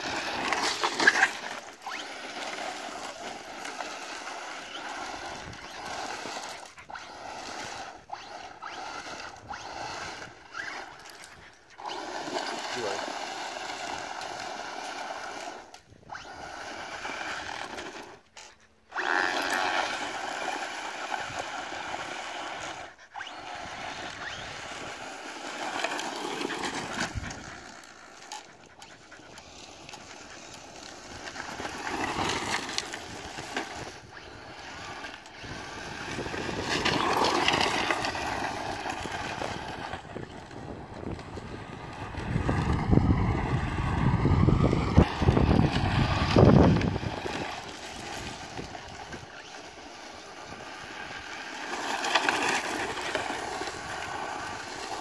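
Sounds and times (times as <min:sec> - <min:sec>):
electric motor whining: 0:00.0 - 0:55.0
tyres scrabbling on dirt: 0:00.0 - 0:55.0.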